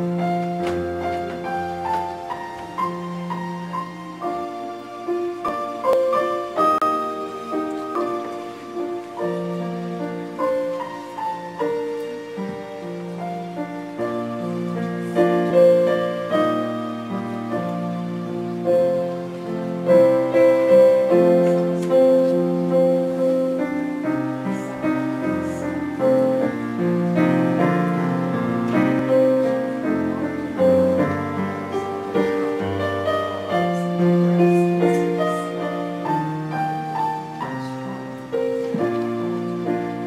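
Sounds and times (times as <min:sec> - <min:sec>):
slow gentle piano music: 0:00.0 - 0:40.0.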